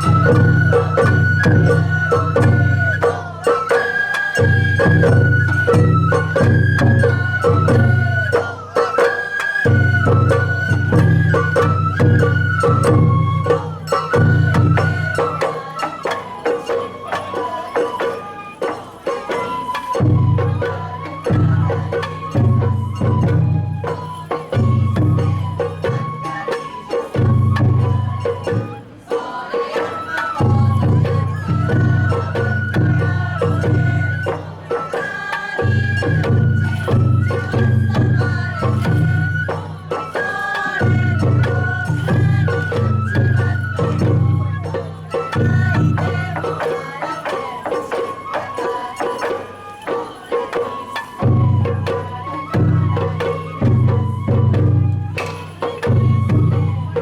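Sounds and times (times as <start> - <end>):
bamboo flute melody: 0.0 - 57.0
drum and percussion strikes: 0.0 - 57.0.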